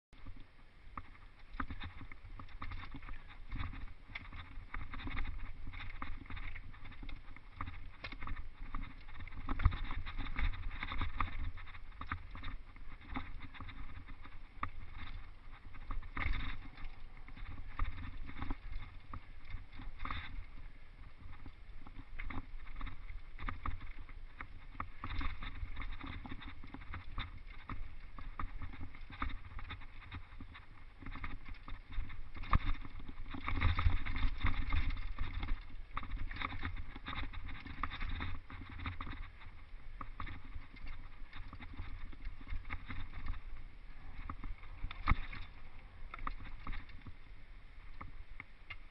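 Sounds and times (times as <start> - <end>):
mountain bike rattling over rocks: 0.2 - 48.9.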